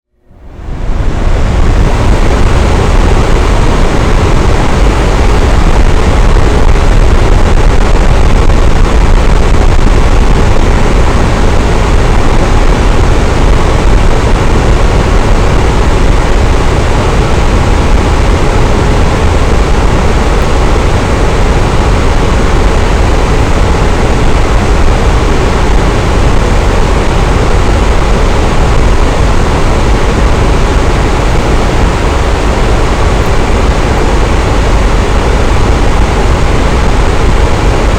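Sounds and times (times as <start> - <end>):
electric fan running: 0.1 - 37.9.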